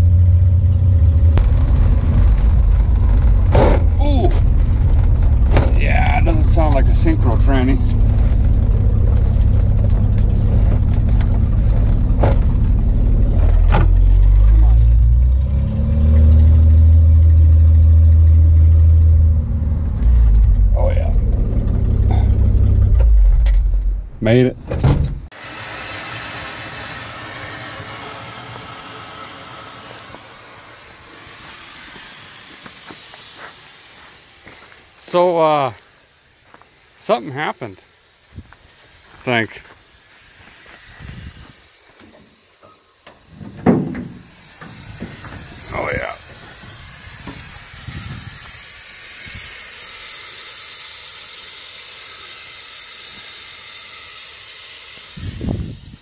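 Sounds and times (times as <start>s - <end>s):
steam hissing: 1.2s - 21.1s, 25.3s - 56.0s.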